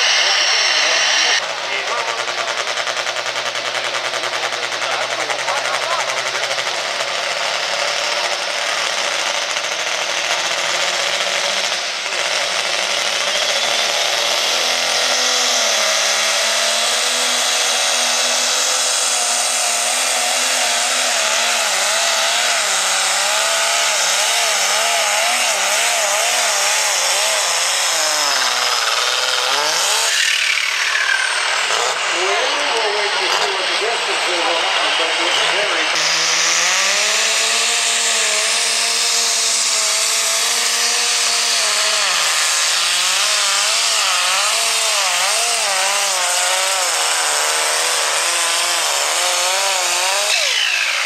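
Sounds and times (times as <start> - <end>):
tractor diesel engine running flat out: 0.0 - 51.0.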